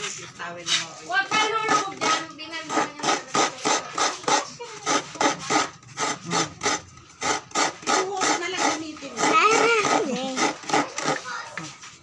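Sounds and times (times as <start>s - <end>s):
coconut grater rasping: 0.0s - 12.0s.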